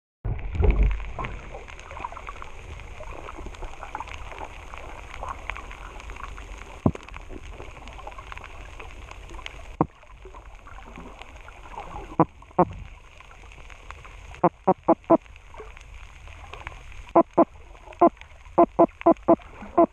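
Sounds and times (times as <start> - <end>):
underwater crackling clicks: 0.5 - 10.2, 12.1 - 19.9.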